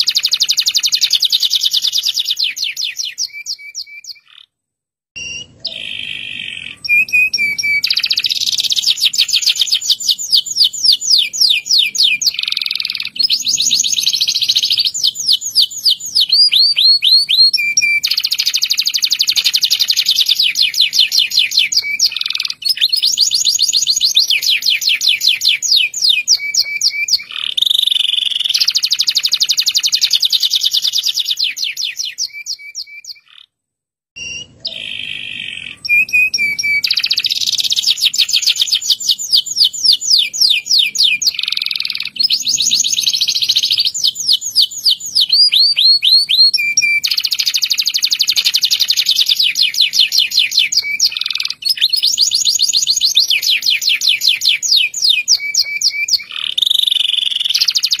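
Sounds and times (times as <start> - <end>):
canary trilling: 0.0 - 4.5, 5.2 - 33.5, 34.2 - 58.0.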